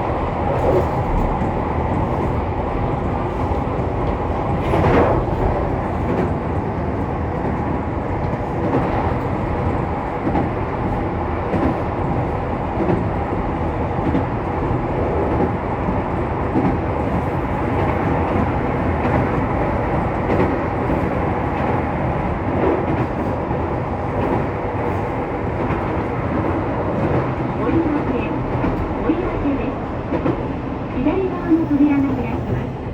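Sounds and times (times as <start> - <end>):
train rumble and rail noise: 0.0 - 32.9.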